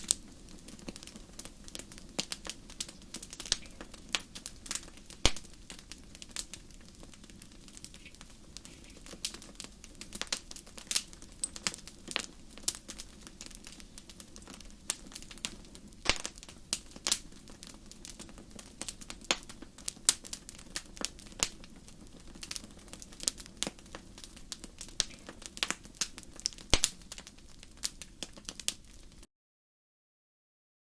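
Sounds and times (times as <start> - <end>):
fireplace fire crackling: 0.0 - 29.3.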